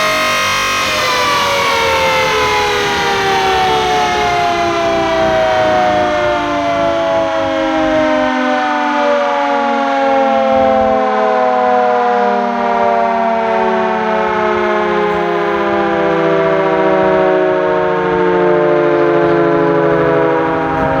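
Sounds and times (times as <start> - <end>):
air-raid siren wailing: 0.0 - 21.0.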